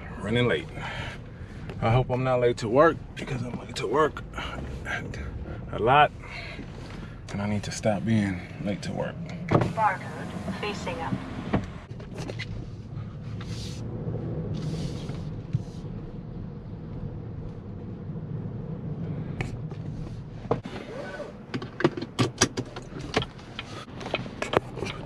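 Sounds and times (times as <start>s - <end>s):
engine and road hum in car: 0.0s - 25.0s.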